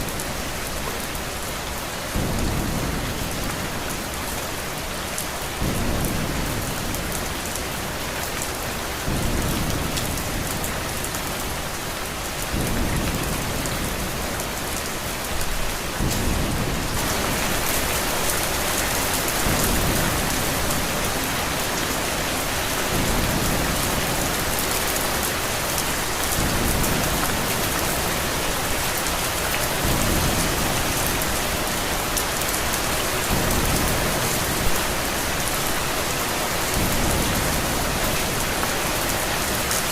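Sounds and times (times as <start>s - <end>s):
steady rain: 0.0s - 39.9s
thunder rumbles: 2.1s - 39.7s.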